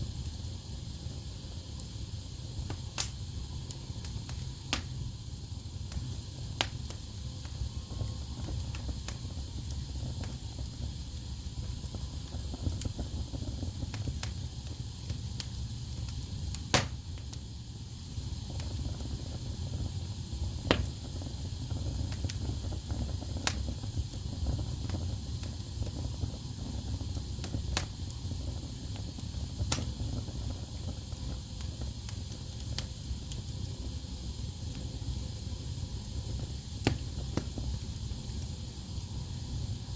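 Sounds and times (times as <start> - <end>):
burning logs crackling and popping: 0.0 - 39.9
rumble and hiss of flames: 0.0 - 39.9.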